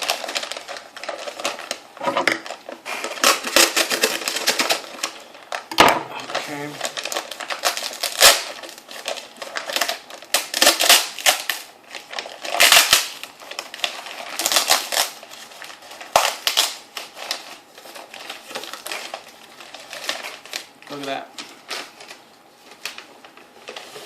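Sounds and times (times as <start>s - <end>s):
packaging crackling and rustling: 0.0s - 24.0s.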